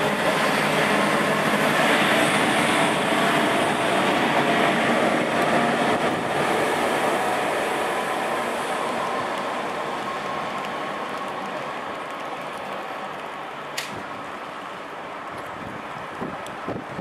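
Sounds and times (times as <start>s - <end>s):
electric train running noise: 0.0s - 17.0s.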